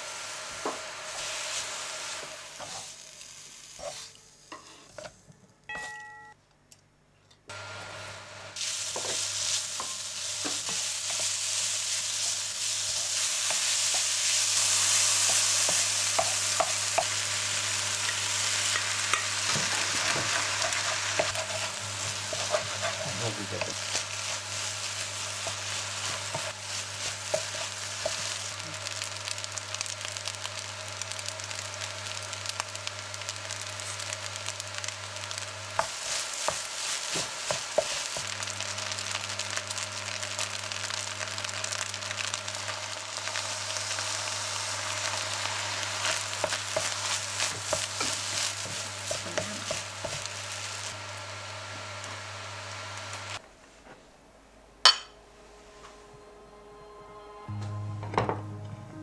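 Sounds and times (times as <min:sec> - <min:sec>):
fried rice sizzling in a pan: 0:00.0 - 0:05.1, 0:07.5 - 0:53.4.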